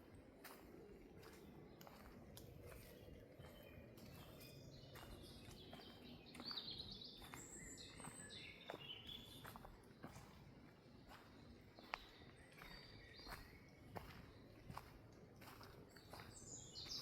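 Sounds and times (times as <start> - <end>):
footsteps on forest floor: 0.0 - 17.0.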